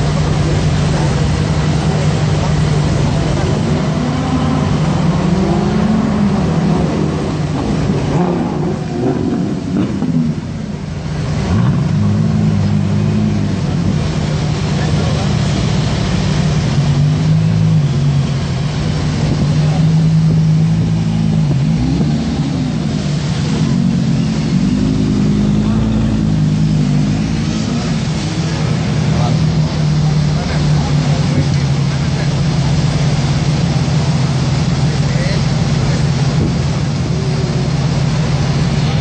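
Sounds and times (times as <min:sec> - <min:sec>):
engine throttle blips: 0:00.0 - 0:39.0
onlookers' voices: 0:00.0 - 0:39.0
sports car engine at low revs: 0:00.0 - 0:39.0.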